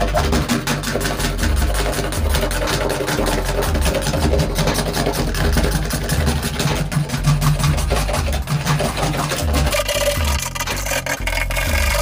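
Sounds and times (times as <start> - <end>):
power tool cutting plastic: 0.0 - 12.0.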